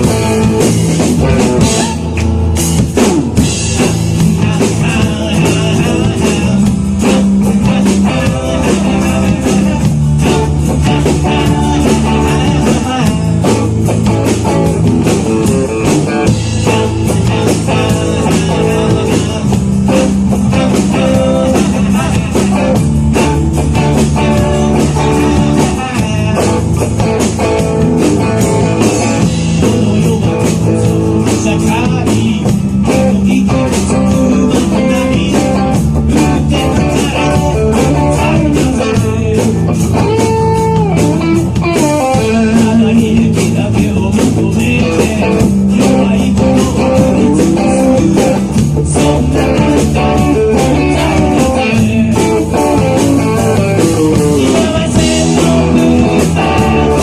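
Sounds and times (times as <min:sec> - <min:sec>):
electric guitar bending melodic lines: 0:00.0 - 0:57.0
live rock band playing: 0:00.0 - 0:57.0
steady drum beat: 0:00.0 - 0:57.0.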